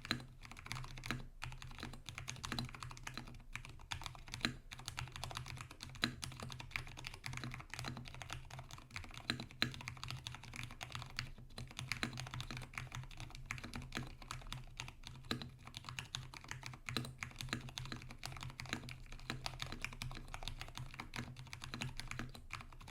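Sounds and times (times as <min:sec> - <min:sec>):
fast typing on mechanical keyboard: 0:00.0 - 0:22.9.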